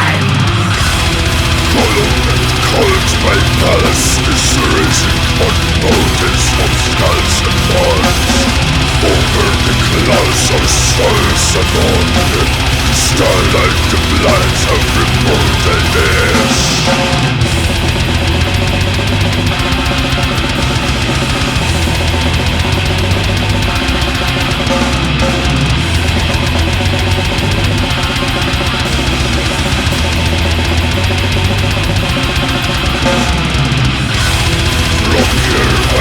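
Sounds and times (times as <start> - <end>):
bass guitar: 0.0 - 36.0
distorted electric guitars: 0.0 - 36.0
fast drumming on drum kit: 0.0 - 36.0.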